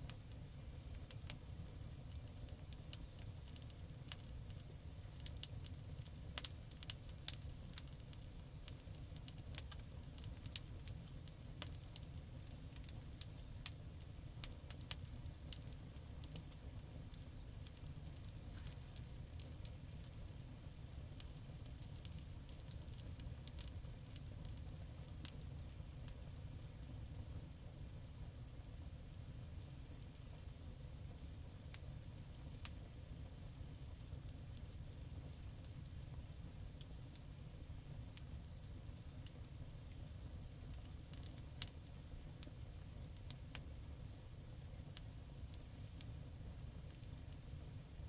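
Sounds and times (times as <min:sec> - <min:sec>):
campfire crackling: 0:00.0 - 0:48.0
low fire rumble: 0:00.0 - 0:48.0.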